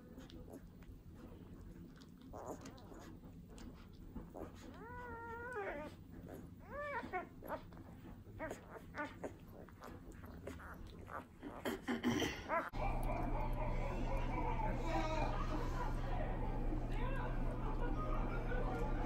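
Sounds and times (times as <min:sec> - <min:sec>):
puppies nursing wet smacking: 0:00.0 - 0:19.0.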